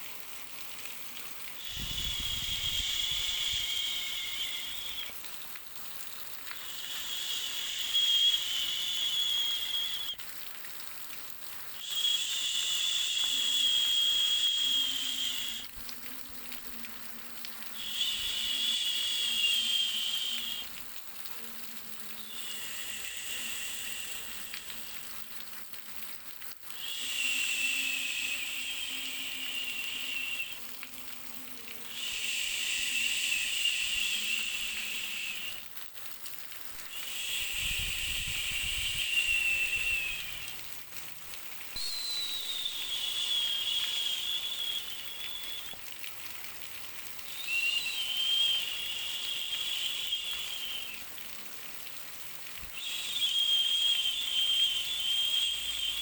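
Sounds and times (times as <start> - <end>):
white noise hiss with whistling tone: 0.0 - 35.8, 36.4 - 56.0.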